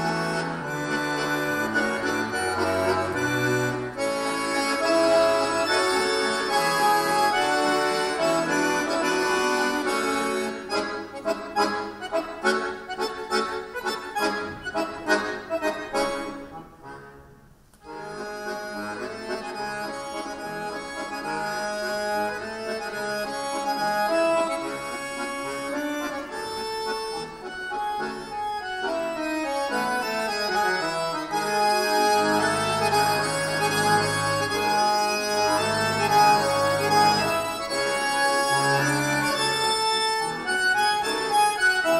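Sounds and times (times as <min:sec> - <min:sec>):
accordion duet: 0:00.0 - 0:41.9.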